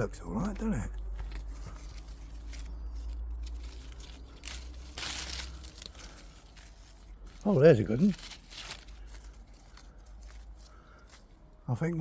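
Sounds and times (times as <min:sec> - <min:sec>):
close rustling and crinkling: 0:00.0 - 0:12.0
steady low rumble: 0:00.0 - 0:12.0.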